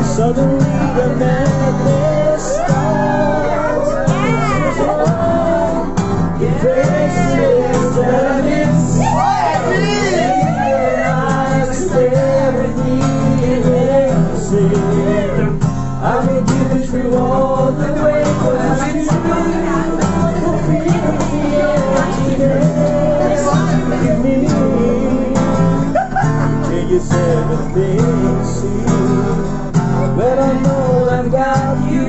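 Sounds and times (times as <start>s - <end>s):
person singing a serenade: 0.0s - 32.0s
strummed acoustic guitar: 0.0s - 32.0s.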